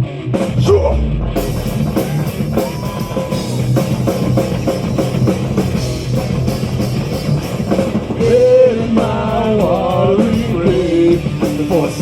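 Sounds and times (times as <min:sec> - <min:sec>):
heavy metal band playing: 0:00.0 - 0:12.0
fast drum strikes: 0:00.4 - 0:12.0.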